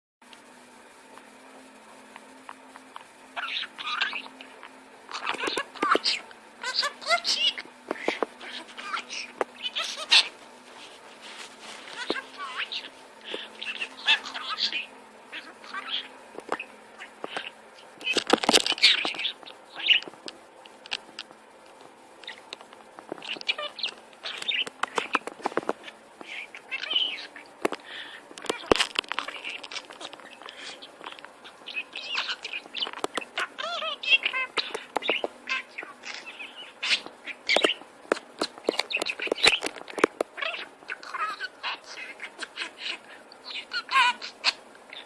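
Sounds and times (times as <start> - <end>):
parrot chattering: 2.9 - 10.4, 11.8 - 20.1, 22.2 - 45.0.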